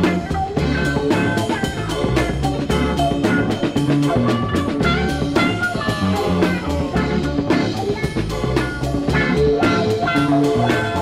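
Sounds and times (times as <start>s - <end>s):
funk dance music: 0.0s - 11.0s.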